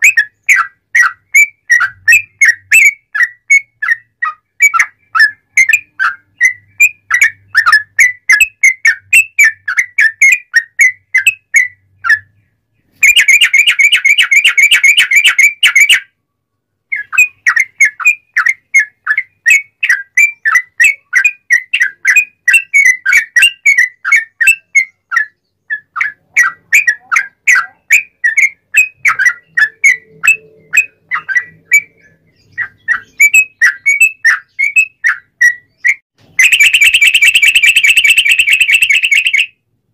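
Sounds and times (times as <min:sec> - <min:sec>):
bird singing whistled notes: 0:00.0 - 0:16.2, 0:16.9 - 0:39.6.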